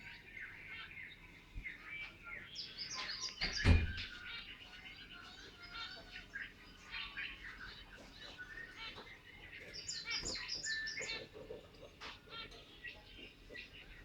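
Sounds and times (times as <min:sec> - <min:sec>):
finches chirping: 0:00.0 - 0:14.0.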